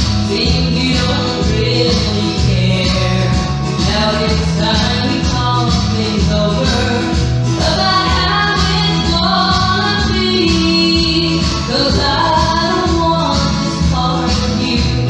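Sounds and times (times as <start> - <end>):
woman singing over a beat: 0.0 - 15.0.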